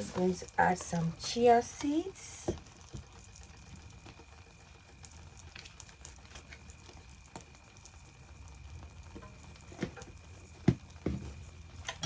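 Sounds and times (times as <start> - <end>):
omelette frying in oil: 0.0 - 12.0.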